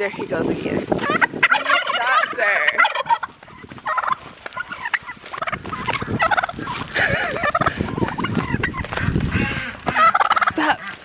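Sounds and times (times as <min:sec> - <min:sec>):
turkey gobbling: 0:01.0 - 0:11.0.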